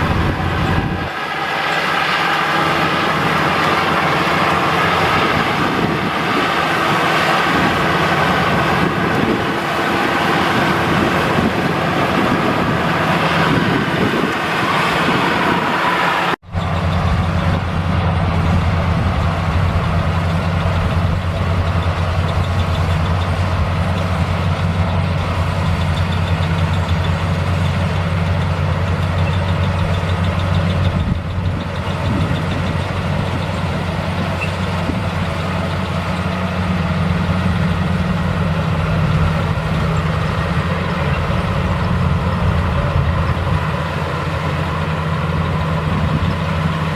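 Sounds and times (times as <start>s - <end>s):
combine harvester engine running: 0.0s - 46.9s.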